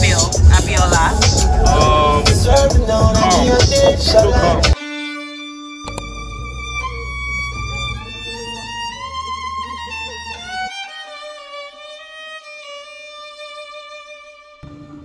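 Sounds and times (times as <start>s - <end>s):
violin playing slow melody: 0.0s - 14.8s.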